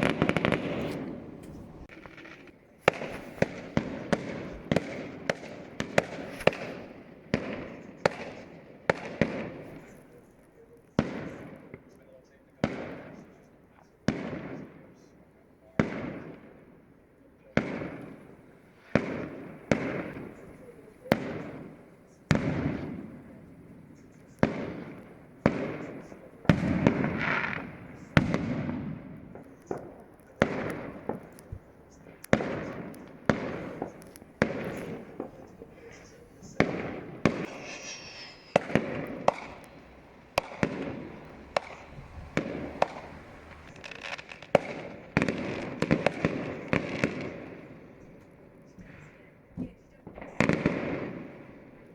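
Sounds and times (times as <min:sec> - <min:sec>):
fireworks bangs with echo: 0:00.0 - 0:51.9.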